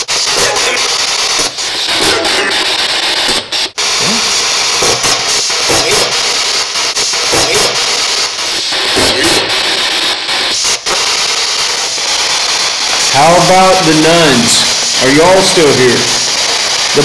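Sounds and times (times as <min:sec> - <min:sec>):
choppy radio static: 0:00.0 - 0:17.0
snatches of broadcast sound: 0:00.0 - 0:17.0.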